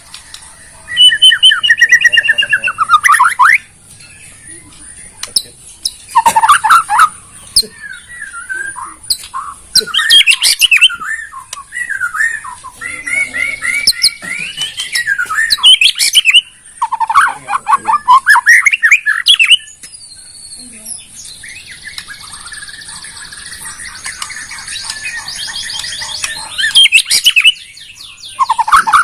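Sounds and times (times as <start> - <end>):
bird singing whistles and trills: 0.0 - 29.0.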